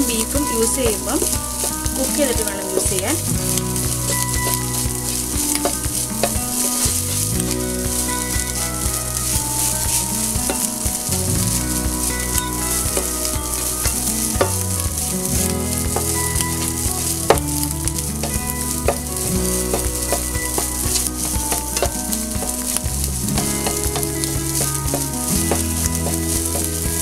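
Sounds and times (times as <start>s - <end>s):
rice sizzling in a frying pan: 0.0s - 27.0s
spatula scraping and tapping pan: 0.0s - 27.0s.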